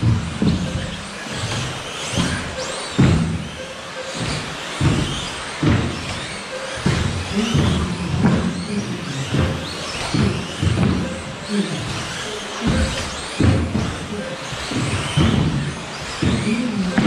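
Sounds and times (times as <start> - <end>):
rc car motors whining: 0.0 - 17.0.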